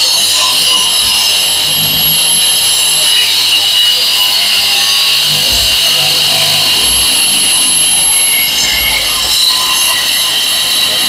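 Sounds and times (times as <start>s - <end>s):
wall chaser cutting with high whine: 0.0s - 11.0s.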